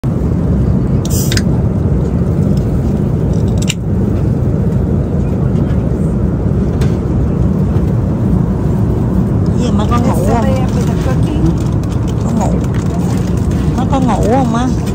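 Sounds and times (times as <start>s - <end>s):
low rumble of moving vehicle: 0.0s - 14.9s.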